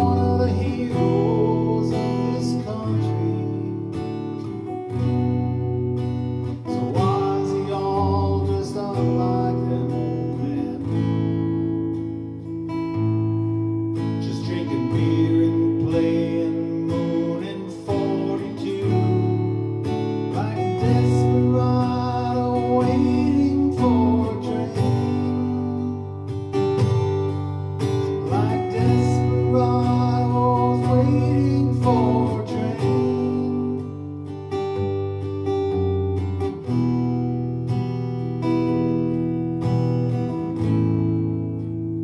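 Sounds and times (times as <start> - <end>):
acoustic guitar strumming chords: 0.0 - 42.0.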